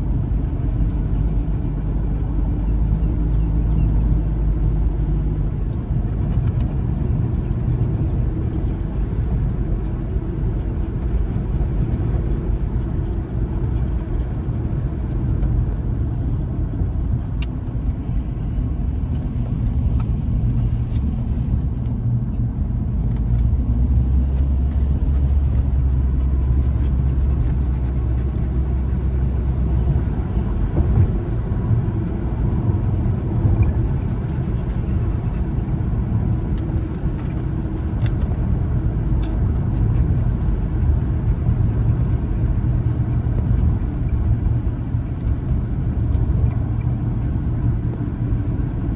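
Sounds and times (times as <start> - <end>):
car engine and tyres rumbling: 0.0 - 48.9.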